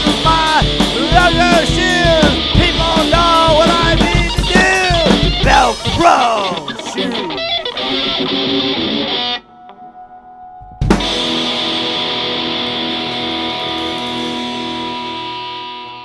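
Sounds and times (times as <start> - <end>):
distorted electric guitar chords: 0.0 - 16.0.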